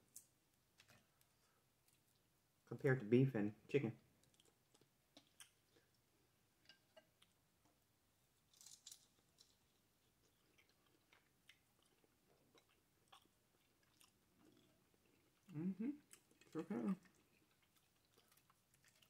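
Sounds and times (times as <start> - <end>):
faint chewing and mouth clicks: 0.0 - 2.4, 4.1 - 19.0.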